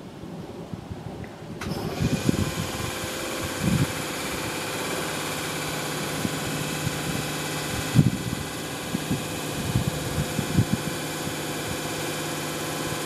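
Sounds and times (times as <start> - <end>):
wind buffeting microphone: 0.2 - 4.7, 5.4 - 12.0
train motor whine: 1.6 - 13.0.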